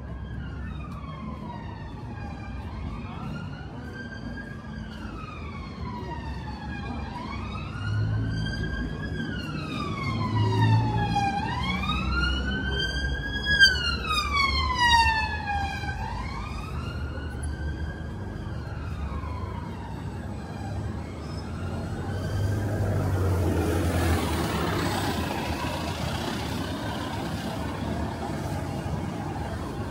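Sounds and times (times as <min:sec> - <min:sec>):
emergency siren wailing: 0:00.0 - 0:29.9
street traffic rumble: 0:00.0 - 0:29.9.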